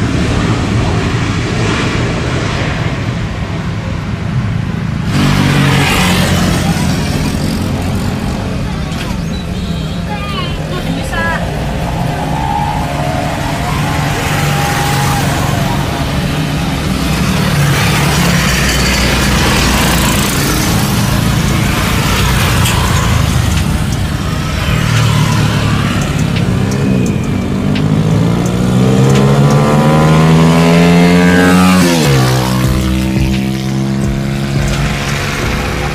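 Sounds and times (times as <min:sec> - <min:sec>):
jet engines rumbling: 0:00.0 - 0:35.9.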